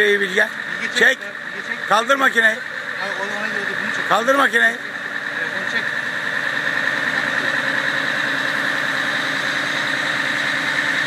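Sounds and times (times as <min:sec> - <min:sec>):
high hydraulic whine: 0:00.0 - 0:11.0
truck engine running: 0:00.0 - 0:11.0.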